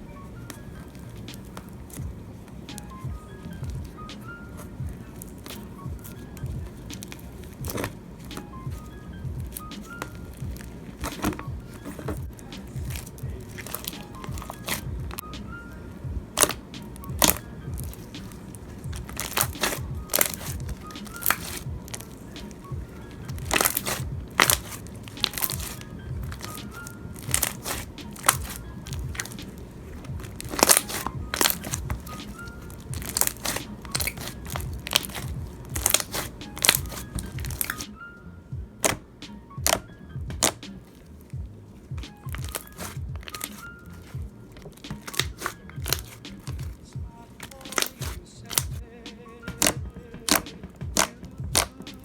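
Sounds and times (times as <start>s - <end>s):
hands squishing slime: 0.0s - 37.9s, 38.8s - 48.8s, 49.4s - 52.0s
slime air pockets popping: 0.4s - 38.0s, 38.7s - 48.8s, 49.4s - 52.0s.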